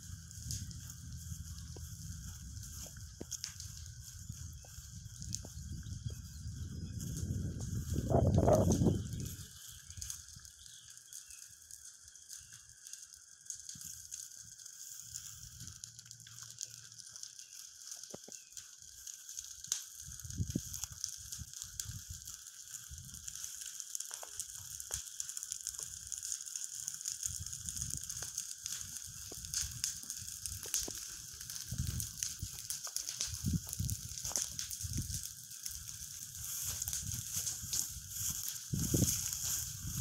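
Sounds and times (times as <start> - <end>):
footsteps crunching through grass and twigs: 0.0 - 11.5, 13.6 - 40.0.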